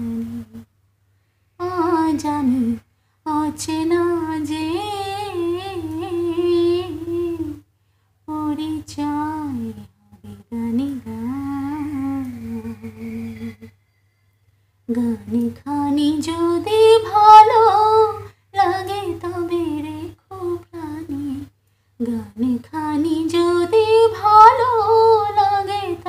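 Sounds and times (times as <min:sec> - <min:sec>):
woman singing unaccompanied: 0:00.0 - 0:00.7, 0:01.6 - 0:07.7, 0:08.3 - 0:13.8, 0:14.9 - 0:26.0.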